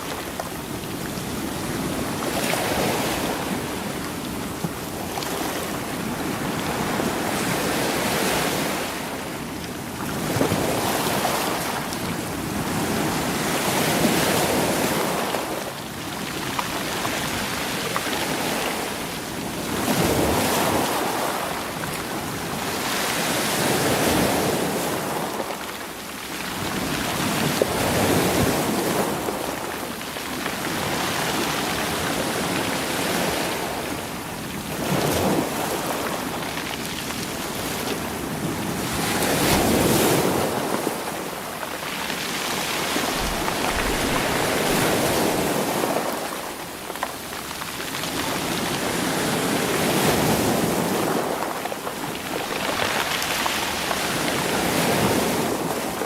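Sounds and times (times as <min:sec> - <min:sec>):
sea waves over rocks: 0:00.0 - 0:56.0.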